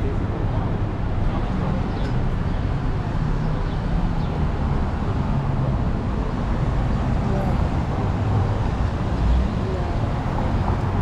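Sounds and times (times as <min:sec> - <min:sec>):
road noise: 0:00.0 - 0:11.0
traffic engine hum: 0:00.0 - 0:11.0.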